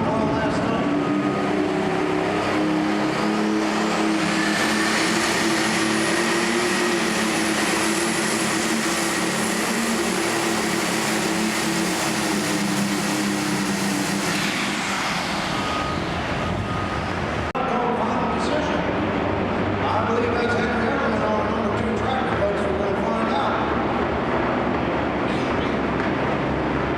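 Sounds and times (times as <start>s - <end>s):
tractor engine running hard: 0.0s - 26.9s
turbocharger whine: 0.0s - 26.9s.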